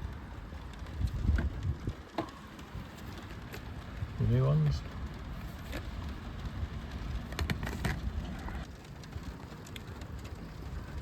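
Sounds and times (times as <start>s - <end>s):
light rain pattering: 0.0s - 11.0s
low steady rumble: 0.0s - 11.0s.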